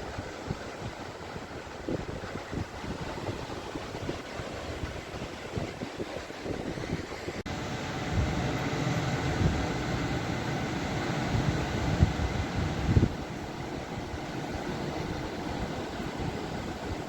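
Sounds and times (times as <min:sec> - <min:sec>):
ocean waves rushing: 0:00.0 - 0:17.0.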